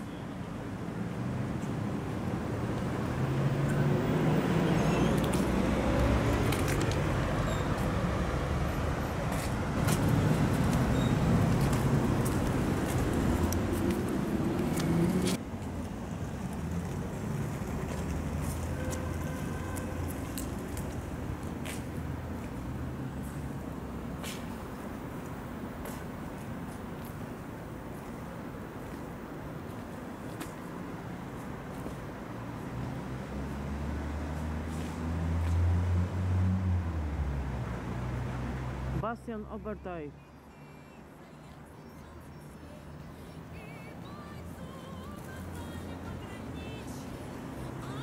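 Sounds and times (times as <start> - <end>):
traffic hum: 0.0 - 48.0.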